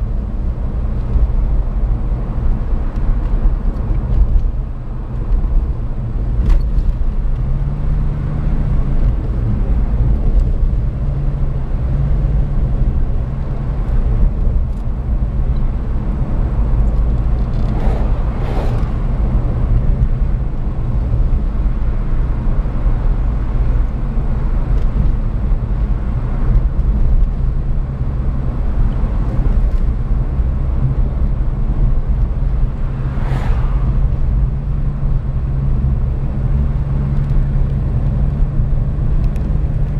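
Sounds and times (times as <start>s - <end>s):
car engine rumble: 0.0s - 39.9s
tyres on road: 0.0s - 39.9s.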